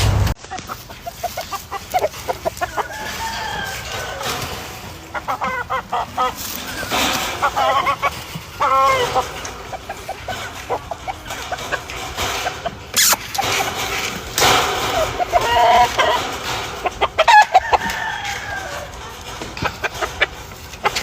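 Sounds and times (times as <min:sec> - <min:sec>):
hens clucking: 0:00.0 - 0:21.0
roosters crowing: 0:00.0 - 0:21.0.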